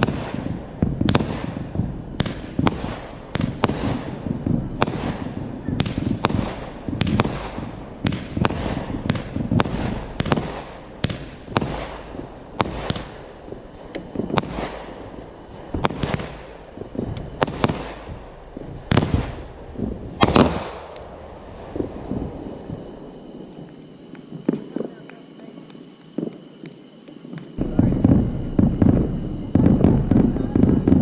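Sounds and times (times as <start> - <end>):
fireworks exploding: 0.0 - 31.0.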